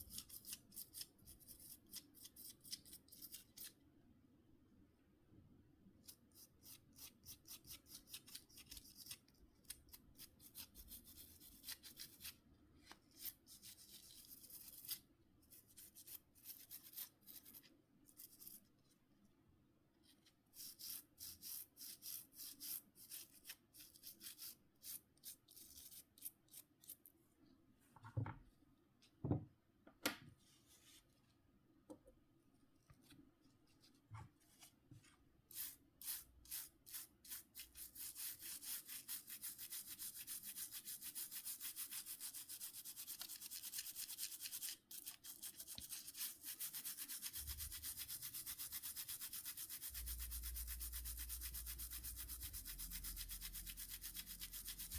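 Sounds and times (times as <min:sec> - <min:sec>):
rubbing strokes on phone parts: 0:00.0 - 0:03.8, 0:06.0 - 0:19.0, 0:20.0 - 0:27.1, 0:30.4 - 0:31.4, 0:32.7 - 0:54.9.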